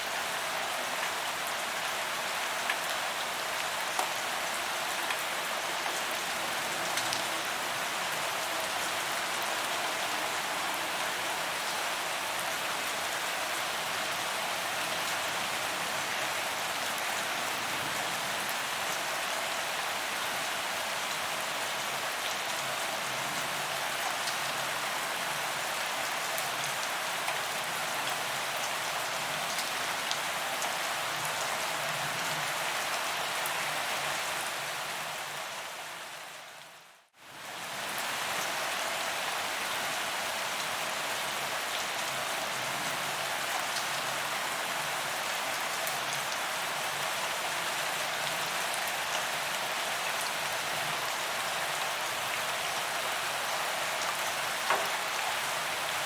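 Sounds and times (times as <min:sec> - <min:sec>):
rain on pavement: 0:00.0 - 0:56.0.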